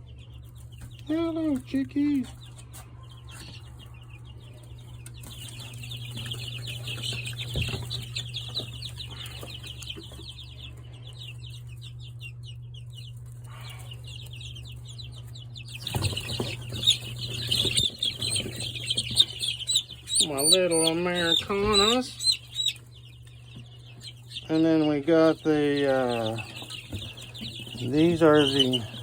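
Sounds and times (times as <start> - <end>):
chicks peeping: 0.0 - 29.0
steady low hum: 0.0 - 29.0.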